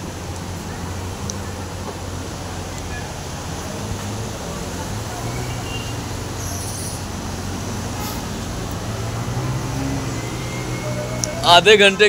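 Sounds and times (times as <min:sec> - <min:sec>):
low engine hum: 0:00.0 - 0:12.0
traffic noise hiss: 0:00.0 - 0:12.0.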